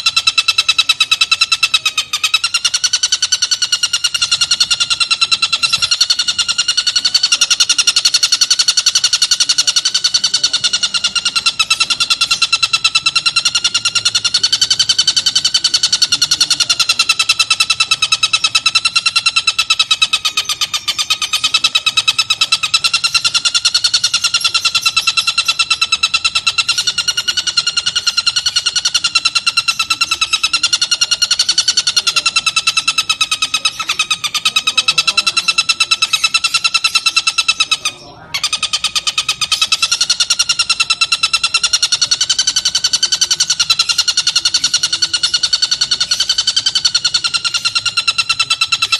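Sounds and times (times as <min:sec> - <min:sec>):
bird calling harsh rattle: 0:00.0 - 0:48.9.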